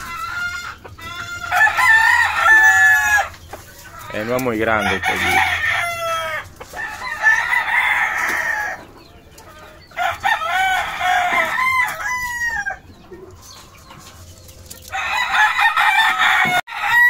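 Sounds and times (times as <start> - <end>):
roosters crowing: 0.0 - 17.0.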